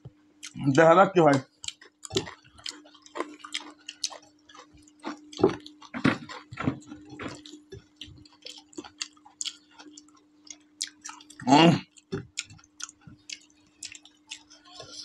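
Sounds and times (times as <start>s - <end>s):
steady low hum: 0.0s - 15.0s
chewing clicks: 0.4s - 14.8s
wet eating smacks: 1.6s - 14.5s.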